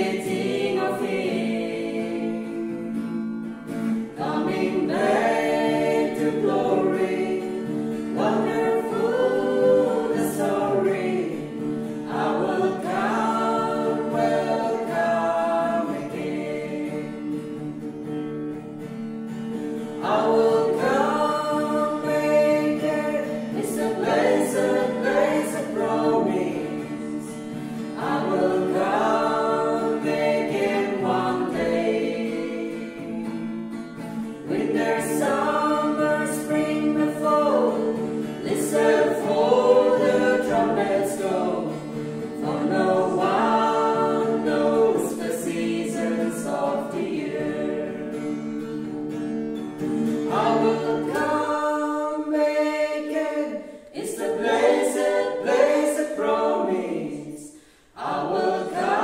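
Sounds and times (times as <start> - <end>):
vocal group singing in harmony: 0.0 - 18.6, 19.3 - 48.9, 50.0 - 59.0
acoustic guitar: 0.0 - 59.0.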